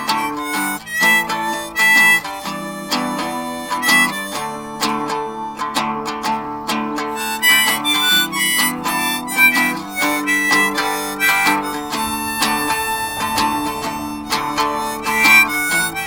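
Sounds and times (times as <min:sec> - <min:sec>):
harmonica solo: 0:00.0 - 0:16.0
strummed acoustic guitar: 0:00.0 - 0:16.0.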